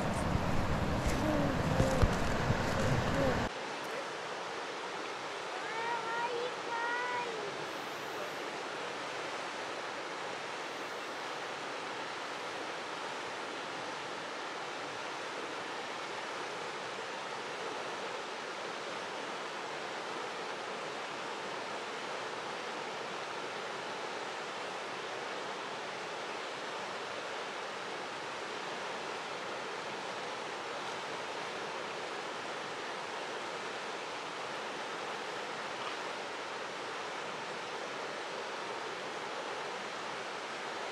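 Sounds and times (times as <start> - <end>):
rushing river water: 0.0 - 40.9.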